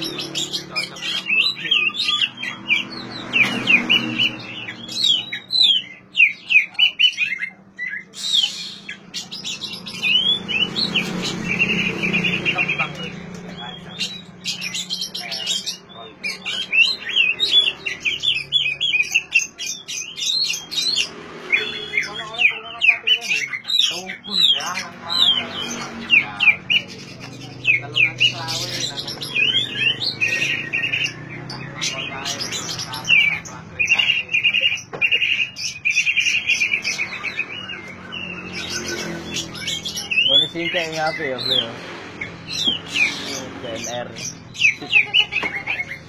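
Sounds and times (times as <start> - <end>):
bird singing: 0.0 - 46.0.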